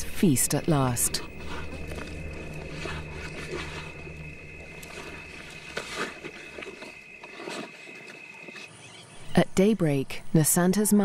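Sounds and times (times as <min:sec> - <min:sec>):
high-pitched insect trill: 0:00.3 - 0:09.4.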